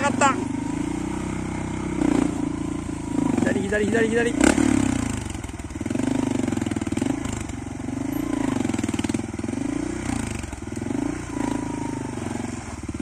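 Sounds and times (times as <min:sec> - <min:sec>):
motorcycle engine revving in bursts: 0:00.0 - 0:13.0.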